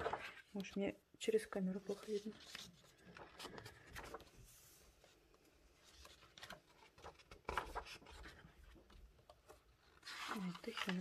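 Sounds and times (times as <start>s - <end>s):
book pages rustling: 0.0s - 11.0s.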